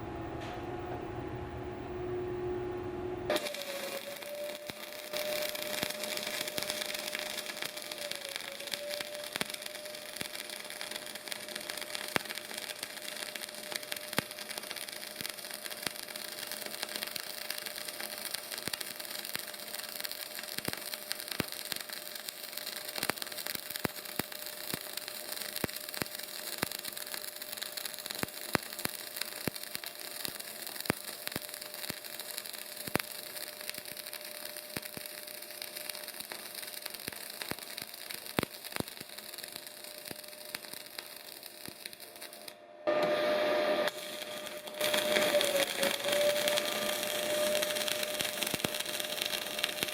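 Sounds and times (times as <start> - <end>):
sharp spatter pops: 3.3 - 42.6, 43.9 - 49.9
welding arc crackling: 3.3 - 49.9.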